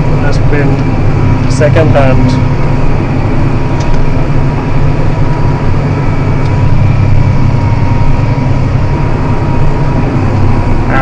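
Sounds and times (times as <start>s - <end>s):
faint steady whine: 0.0s - 11.0s
tractor diesel engine droning: 0.0s - 11.0s.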